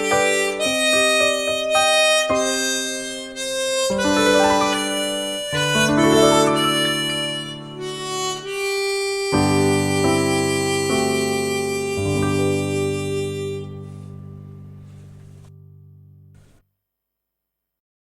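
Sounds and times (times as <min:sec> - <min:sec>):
harmonica playing slow melody: 0:00.0 - 0:15.5.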